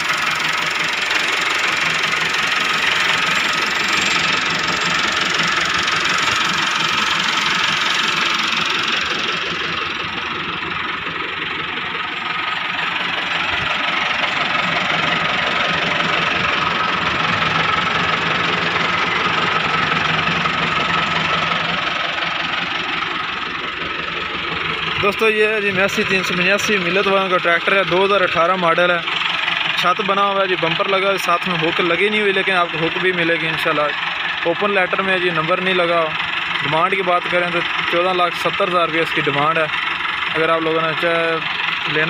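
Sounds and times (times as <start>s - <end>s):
diesel tractor engine idling: 0.0s - 42.0s.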